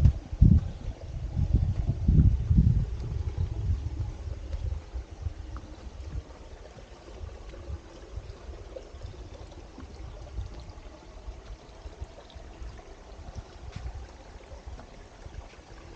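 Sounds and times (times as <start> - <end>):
low rumble on microphone: 0.0 - 15.9
stream trickling: 0.0 - 15.9.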